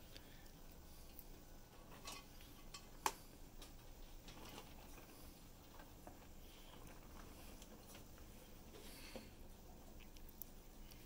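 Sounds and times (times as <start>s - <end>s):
rats ticking and rustling: 0.0s - 11.0s.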